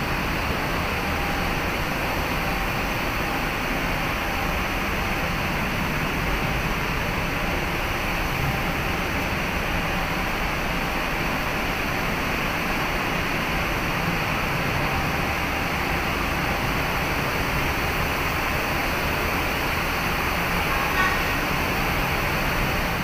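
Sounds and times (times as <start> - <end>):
ship engine and ventilation rumble: 0.0 - 23.0.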